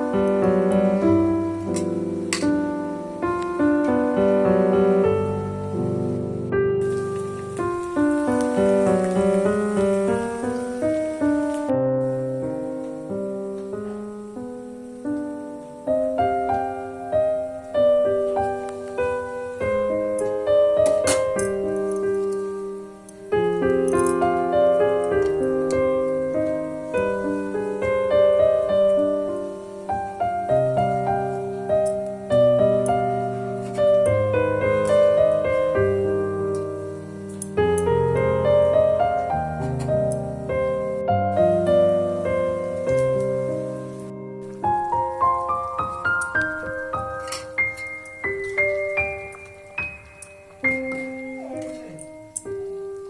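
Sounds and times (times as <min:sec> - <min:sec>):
slow gentle piano music: 0:00.0 - 0:53.0.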